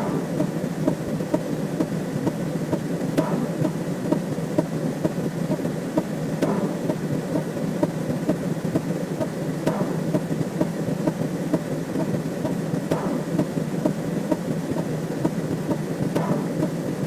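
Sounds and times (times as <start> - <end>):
rapid clicks: 0.0 - 17.0.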